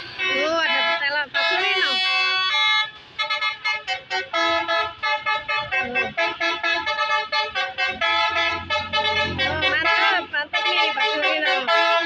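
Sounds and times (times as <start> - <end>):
musical air horn tune: 0.0 - 12.0.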